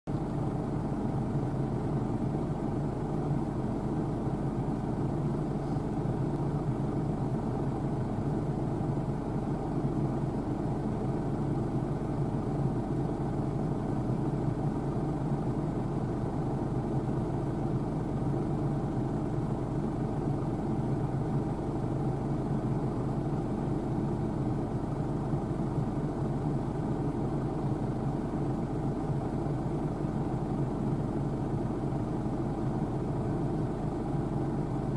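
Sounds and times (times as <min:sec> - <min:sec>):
combine harvester droning: 0:00.1 - 0:34.9.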